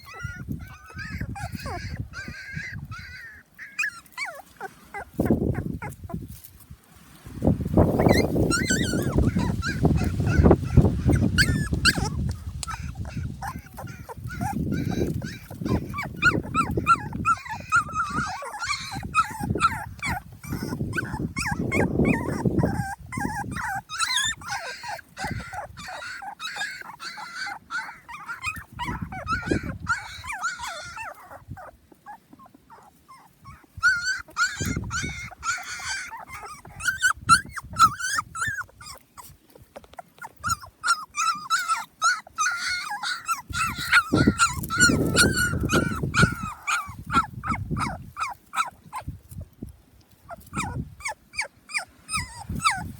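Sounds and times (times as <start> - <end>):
puppies whimpering and squealing: 0.0 - 6.6, 7.5 - 52.9.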